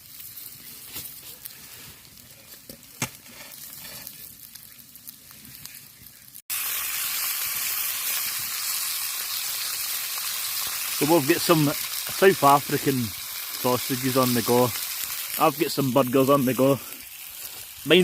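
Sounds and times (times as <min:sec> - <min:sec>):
meat sizzling in a pan: 0:00.0 - 0:18.0
sharp crackles: 0:00.0 - 0:18.0.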